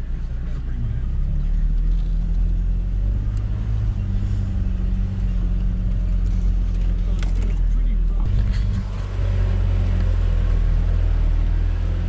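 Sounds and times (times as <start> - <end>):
truck engine hum from cab: 0.0 - 12.0.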